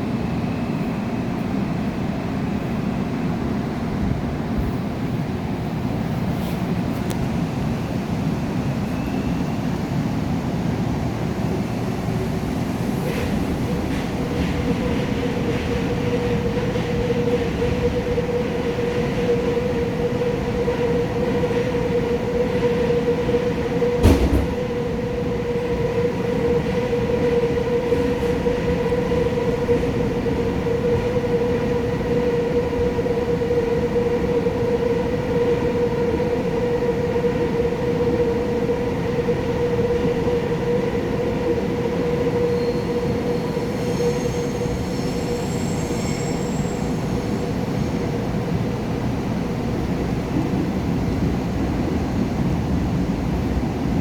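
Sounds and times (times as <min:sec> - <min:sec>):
electric train running hum: 0:00.0 - 0:54.0.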